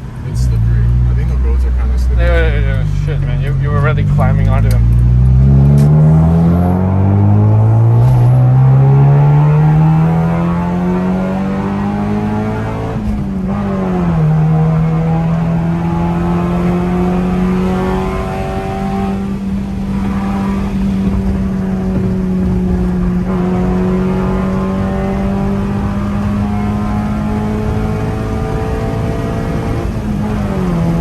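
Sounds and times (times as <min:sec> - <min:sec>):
car engine at high revs: 0:00.0 - 0:31.0
road noise: 0:00.0 - 0:31.0.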